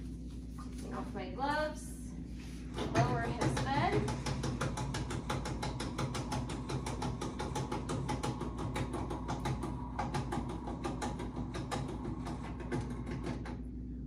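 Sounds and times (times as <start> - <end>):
hospital bed mechanism humming: 0.0 - 14.0.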